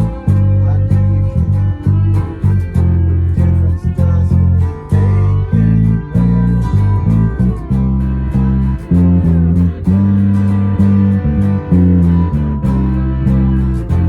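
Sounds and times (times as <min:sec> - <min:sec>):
bass guitar notes: 0:00.0 - 0:14.0
live band playing: 0:00.0 - 0:14.0.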